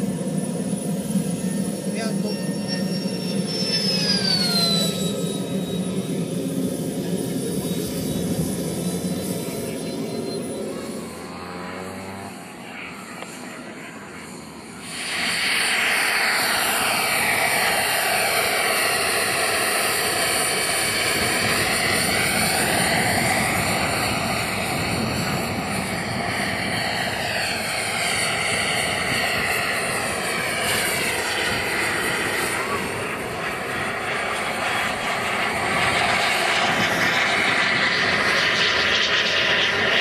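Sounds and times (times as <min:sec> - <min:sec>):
jet helicopter turbine whine: 0:00.0 - 0:40.0.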